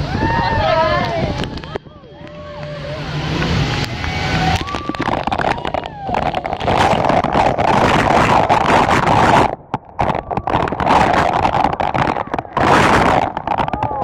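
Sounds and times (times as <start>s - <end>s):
passengers whooping and screaming: 0.0s - 7.8s, 10.0s - 14.0s
roar of falling water: 0.0s - 14.0s.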